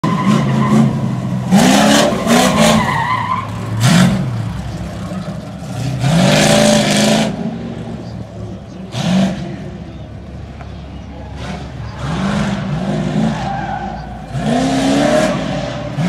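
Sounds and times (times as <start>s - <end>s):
tires squealing: 0.0s - 16.0s
truck engine revving: 0.0s - 16.0s.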